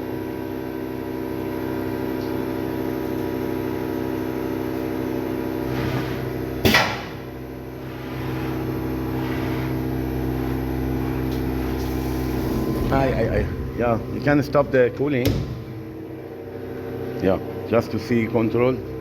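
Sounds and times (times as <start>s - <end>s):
milling machine humming: 1.0s - 19.0s.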